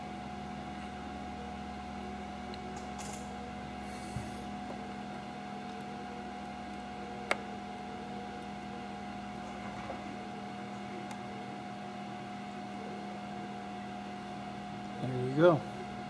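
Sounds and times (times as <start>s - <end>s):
steady hum with faint tones: 0.0s - 16.0s.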